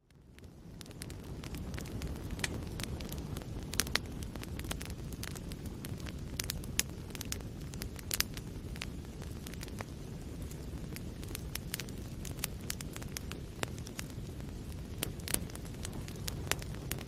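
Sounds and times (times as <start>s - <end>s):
fire crackling and popping: 0.0s - 17.0s
fire low rush: 0.2s - 17.0s.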